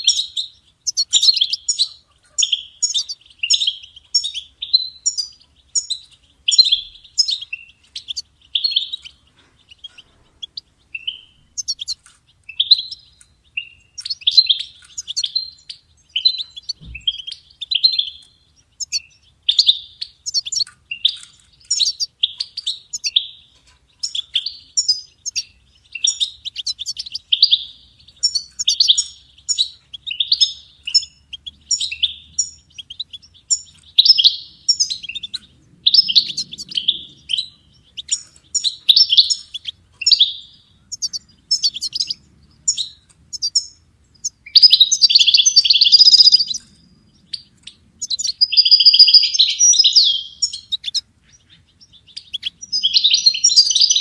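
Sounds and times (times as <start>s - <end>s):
goldfinch twittering song: 0.0s - 54.0s.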